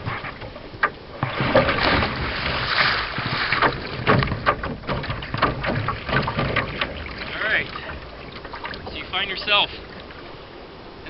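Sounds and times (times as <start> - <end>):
water splashing around a kayak: 0.0 - 11.0.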